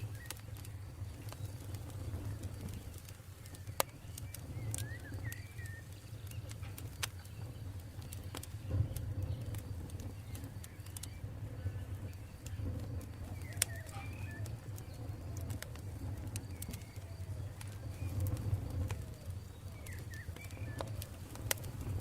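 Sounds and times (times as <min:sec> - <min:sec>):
bird chirps: 0:00.0 - 0:12.6, 0:13.2 - 0:22.0
campfire rumbling: 0:00.0 - 0:22.0
fire crackling and popping: 0:00.0 - 0:22.0.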